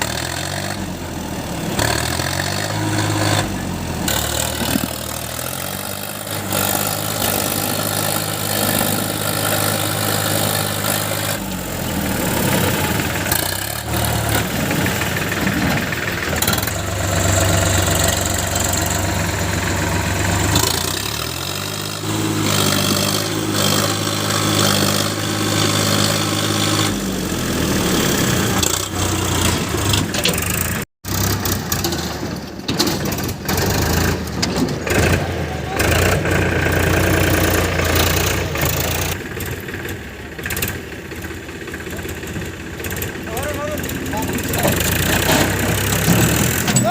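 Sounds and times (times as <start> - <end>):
backhoe diesel engine under load: 0.0 - 46.9.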